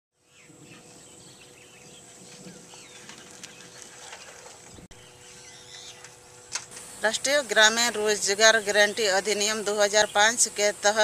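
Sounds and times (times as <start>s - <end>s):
birds chirping: 0.2s - 11.0s
steady background hiss: 0.2s - 11.0s.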